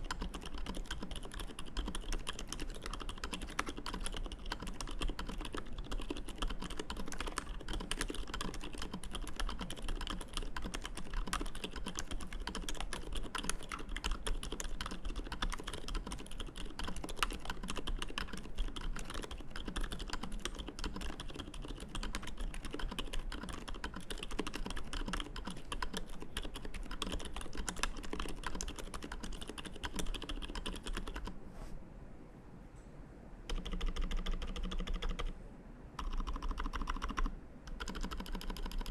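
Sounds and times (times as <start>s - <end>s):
fast mechanical keyboard typing: 0.0s - 31.3s, 33.5s - 35.3s, 36.0s - 38.9s.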